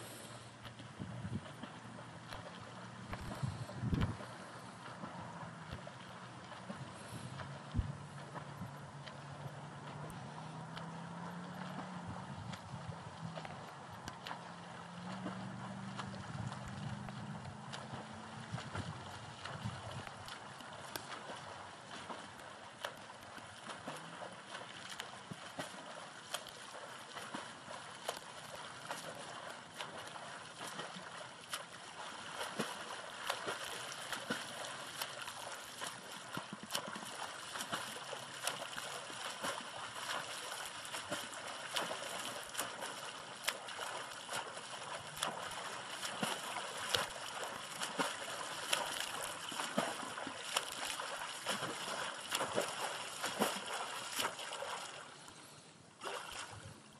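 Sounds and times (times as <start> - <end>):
steady wash of water: 0.0 - 56.9
swimming strokes splashing: 0.0 - 56.9.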